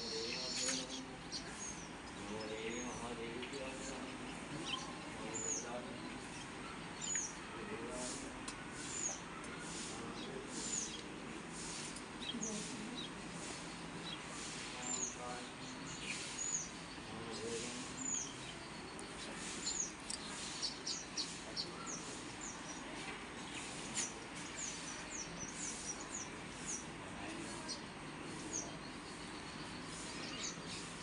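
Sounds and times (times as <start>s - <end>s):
small birds chirping: 0.0s - 31.0s
steady background noise: 0.0s - 31.0s.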